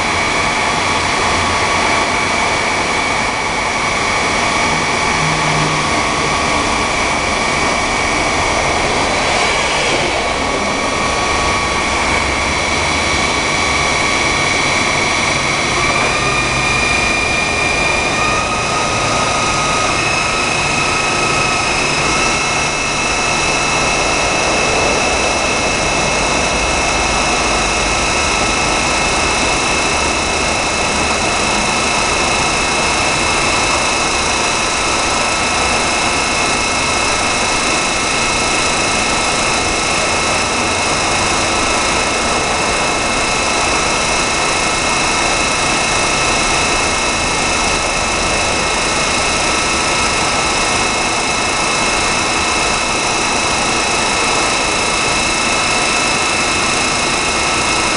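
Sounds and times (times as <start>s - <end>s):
high machine whine: 0.0s - 57.9s
milling machine drone: 0.0s - 57.9s.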